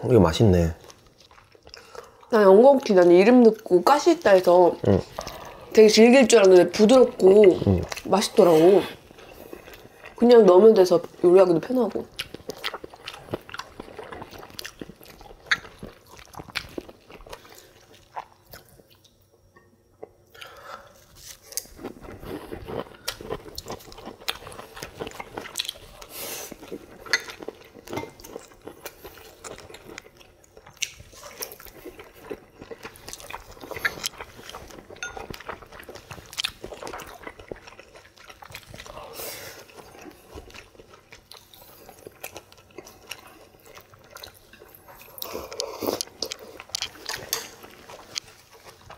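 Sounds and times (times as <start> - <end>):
people chewing: 0.1 - 19.2, 20.0 - 48.9.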